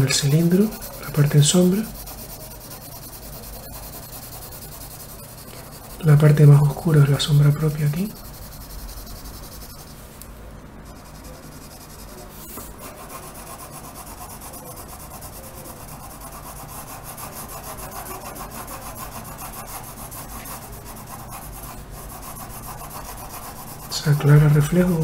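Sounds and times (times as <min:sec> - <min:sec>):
pencil scratching across paper: 0:00.0 - 0:10.2, 0:10.8 - 0:25.0.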